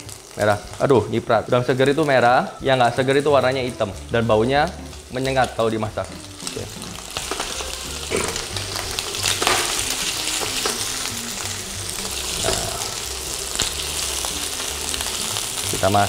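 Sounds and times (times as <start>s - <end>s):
prawns sizzling in hot oil: 0.0s - 16.0s.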